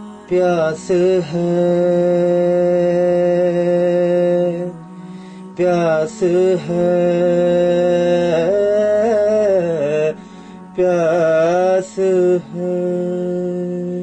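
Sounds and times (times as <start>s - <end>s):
solo voice chant-like singing: 0.0s - 14.0s.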